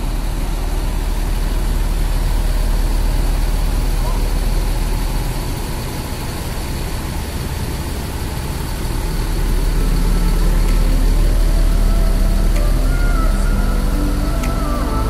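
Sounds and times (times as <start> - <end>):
coach diesel engine rumbling: 0.0 - 15.0.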